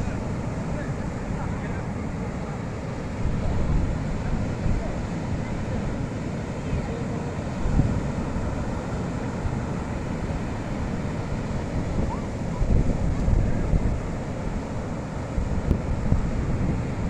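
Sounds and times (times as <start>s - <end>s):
rough sea rushing: 0.0s - 17.0s
wind buffeting microphone: 0.0s - 17.0s.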